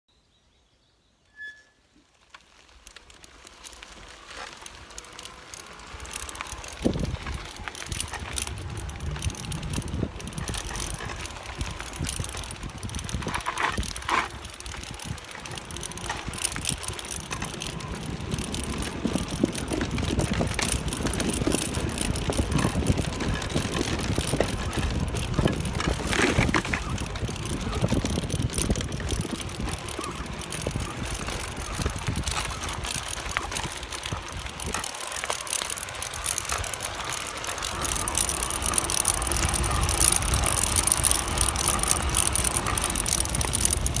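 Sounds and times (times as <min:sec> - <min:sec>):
tyres on wooden boardwalk: 0:00.4 - 0:44.0
tyres crunching over gravel: 0:02.1 - 0:44.0
wind on microphone: 0:06.8 - 0:34.9, 0:36.4 - 0:44.0.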